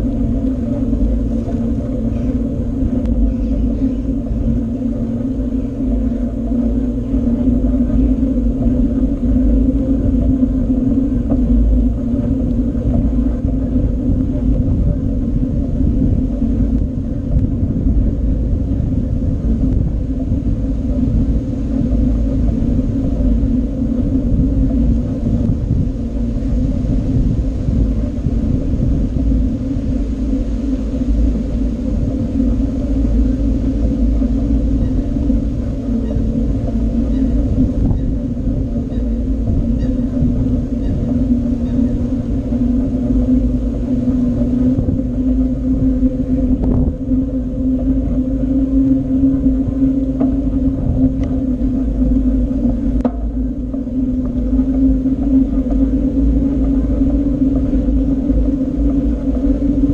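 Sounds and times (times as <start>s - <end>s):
bicycle tyre rolling noise: 0.0s - 59.9s
constant low hum: 0.0s - 59.9s
wind buffeting microphone: 0.0s - 59.9s.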